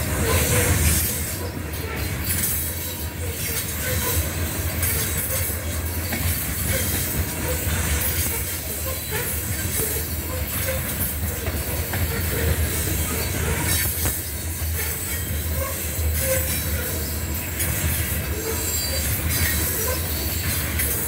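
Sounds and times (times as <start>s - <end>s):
steel wheels rumbling on rails: 0.0s - 21.0s
wheel squeals: 0.0s - 21.0s.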